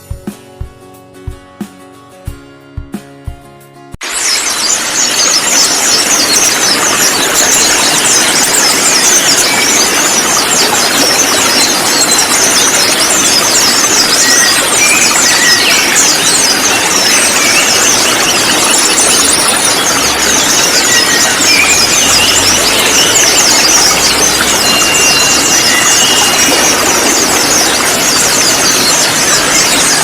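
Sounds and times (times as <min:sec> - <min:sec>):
flock of birds chirping: 0:04.0 - 0:30.0
steady noisy hiss: 0:04.0 - 0:30.0.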